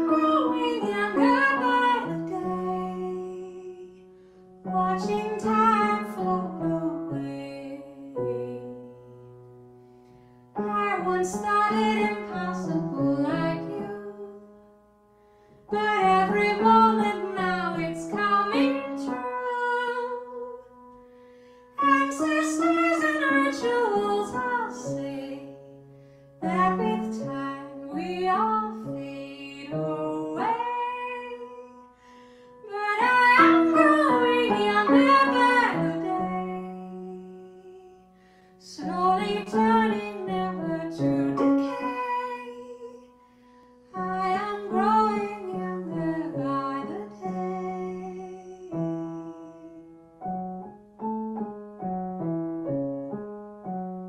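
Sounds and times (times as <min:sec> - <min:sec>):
woman singing: 0:00.0 - 0:09.1, 0:10.6 - 0:14.6, 0:15.7 - 0:20.8, 0:21.8 - 0:25.8, 0:26.4 - 0:32.0, 0:32.6 - 0:43.2, 0:43.9 - 0:49.9
grand piano: 0:00.0 - 0:54.0.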